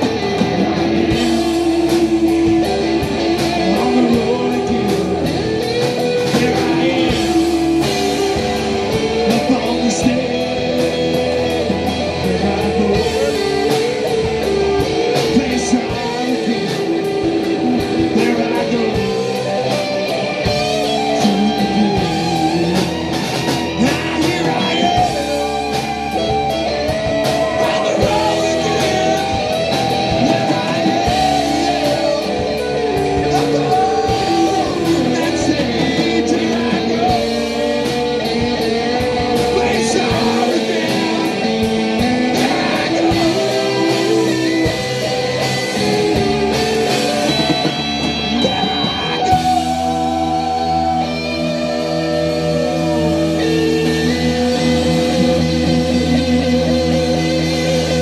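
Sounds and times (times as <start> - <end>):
bending guitar lead line: 0.0 - 58.0
rock band playing: 0.0 - 58.0.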